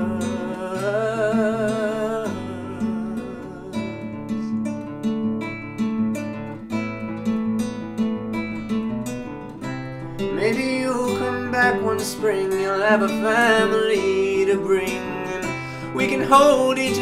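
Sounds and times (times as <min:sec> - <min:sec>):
acoustic guitar folk song: 0:00.0 - 0:17.0.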